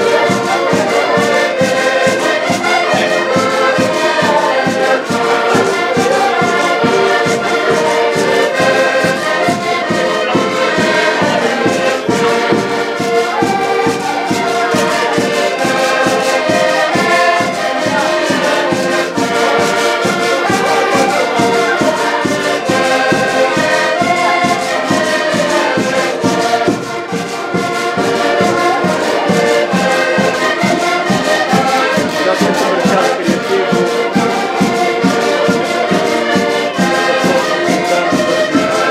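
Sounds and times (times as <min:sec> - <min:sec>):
accordions playing a tune: 0:00.0 - 0:38.9.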